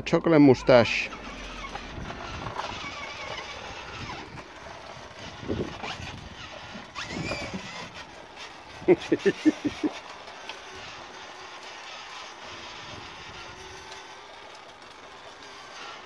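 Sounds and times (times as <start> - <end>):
plastic wheels rumbling on paving: 0.0 - 16.0
toy motor whine: 0.4 - 16.0.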